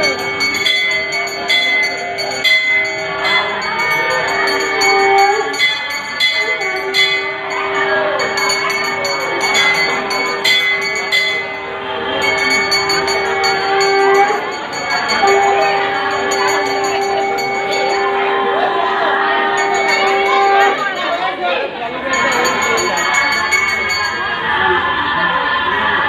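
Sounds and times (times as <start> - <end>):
hand bell struck: 0.0 - 18.6, 19.5 - 21.4, 22.1 - 24.4
long steady blown note: 0.0 - 21.4
people talking: 0.0 - 26.0.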